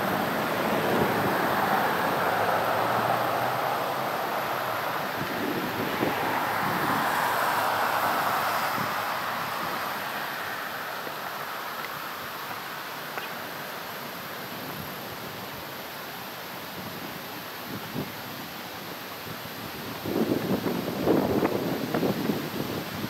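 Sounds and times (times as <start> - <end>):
steady street rushing noise: 0.0 - 23.0.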